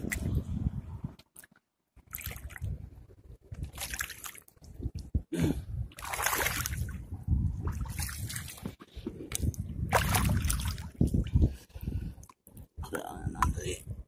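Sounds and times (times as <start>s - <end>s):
water splashing and sloshing: 0.0s - 5.2s, 5.9s - 12.8s.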